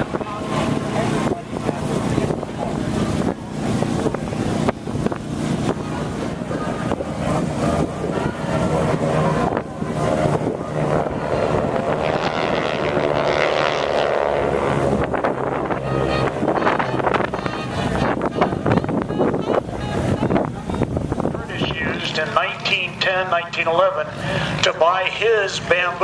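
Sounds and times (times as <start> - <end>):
wind buffeting microphone: 0.0 - 25.9
aircraft engine tone: 0.0 - 26.0
steady engine noise: 0.0 - 26.0.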